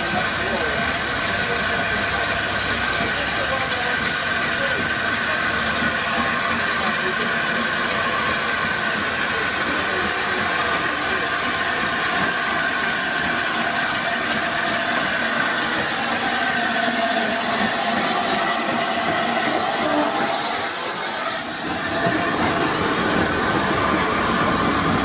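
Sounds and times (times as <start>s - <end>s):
steam locomotive hissing past: 0.0s - 25.0s.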